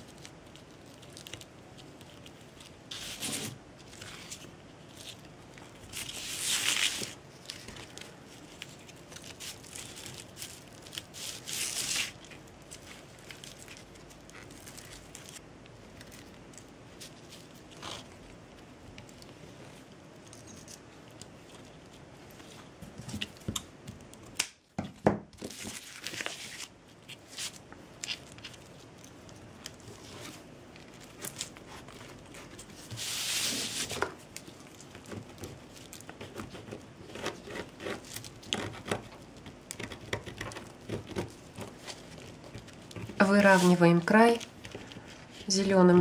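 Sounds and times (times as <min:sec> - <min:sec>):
twine rustling: 0:00.0 - 0:24.3, 0:25.4 - 0:46.0.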